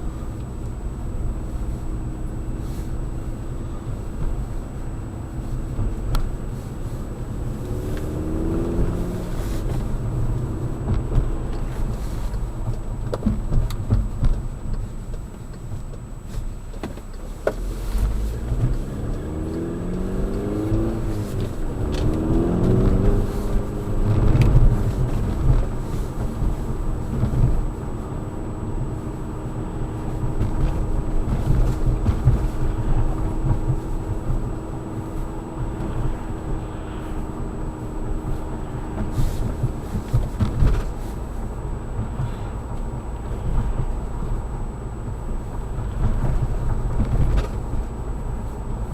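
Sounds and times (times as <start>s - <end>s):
car engine accelerating: 0.0s - 48.9s
road rumble: 0.0s - 48.9s.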